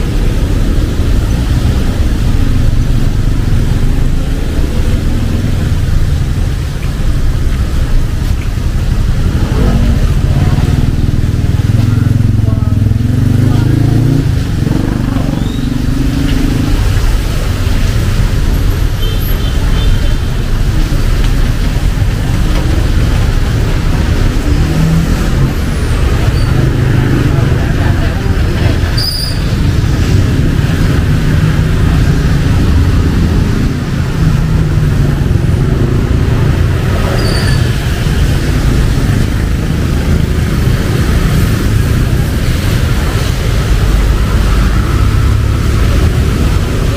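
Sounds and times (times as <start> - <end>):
rain hissing: 0.0 - 46.9
road traffic on wet street: 0.0 - 46.9
vehicle engines rumbling: 0.0 - 46.9.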